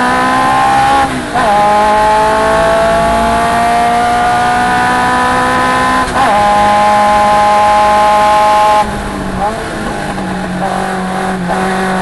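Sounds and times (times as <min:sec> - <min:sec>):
racing car engine revving: 0:00.0 - 0:12.0.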